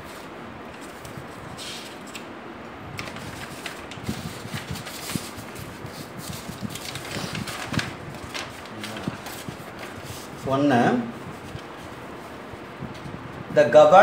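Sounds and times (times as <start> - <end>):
paper rustling: 0.0 - 2.3, 3.0 - 13.2.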